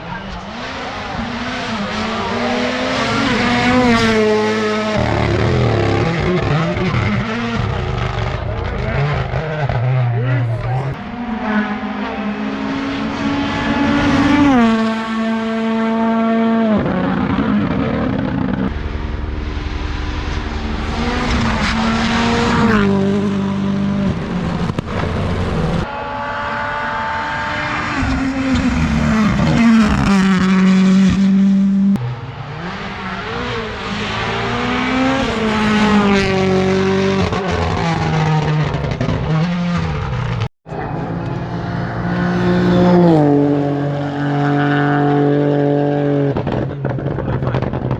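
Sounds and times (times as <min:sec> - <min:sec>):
rally car engines at full throttle: 0:00.0 - 0:47.9.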